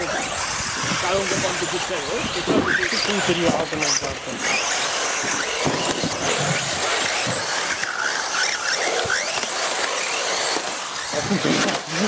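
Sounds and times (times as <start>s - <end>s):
rc car motors whining: 0.0s - 12.0s
steady rushing noise: 0.0s - 12.0s.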